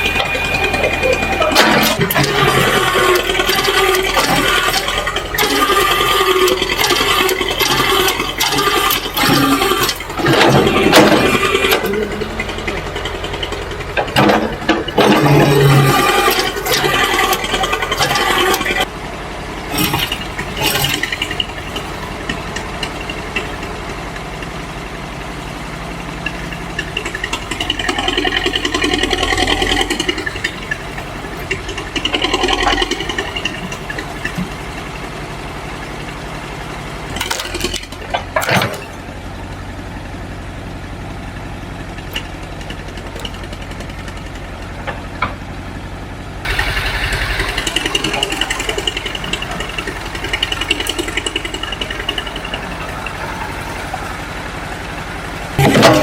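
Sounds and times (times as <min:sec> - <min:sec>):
excavator engine running: 0:00.0 - 0:56.0
machine clanks and rattles: 0:00.0 - 0:56.0.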